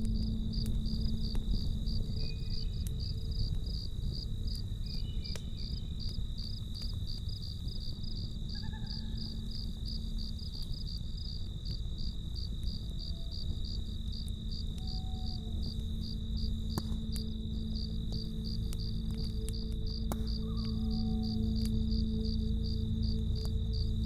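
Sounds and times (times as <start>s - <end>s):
campfire crackling: 0.0s - 24.0s
crickets chirping: 0.0s - 24.0s
low steady hum: 0.0s - 24.0s.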